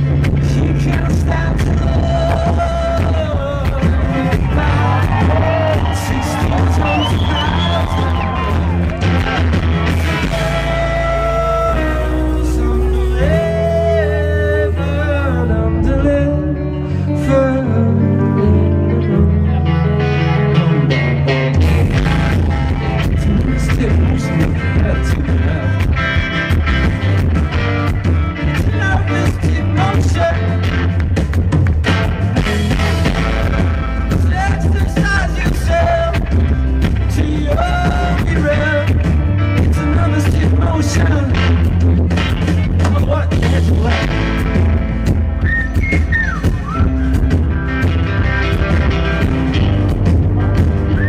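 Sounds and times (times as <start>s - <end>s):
man singing: 0.0s - 26.3s, 27.8s - 31.2s, 32.1s - 45.2s
bass guitar: 0.0s - 51.0s
electric guitar: 0.0s - 51.0s
live rock band: 0.0s - 51.0s.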